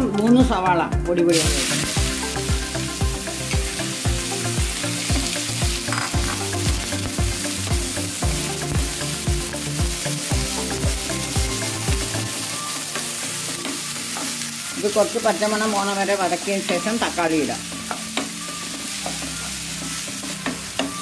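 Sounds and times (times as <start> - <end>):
background music with beat: 0.0 - 15.1, 16.4 - 21.0
onions sizzling in oil: 1.3 - 21.0.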